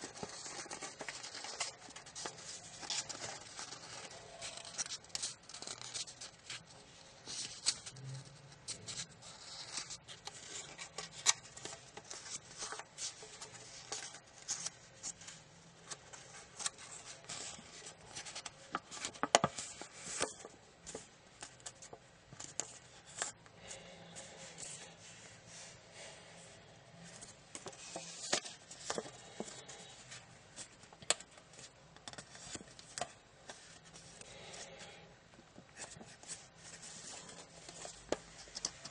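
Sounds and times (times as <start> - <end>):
paper rustling and crackling: 0.0 - 25.7, 27.0 - 34.6, 35.5 - 38.9.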